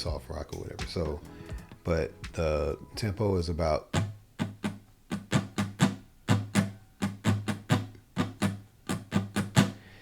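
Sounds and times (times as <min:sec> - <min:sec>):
guitar strumming: 0:00.0 - 0:09.8.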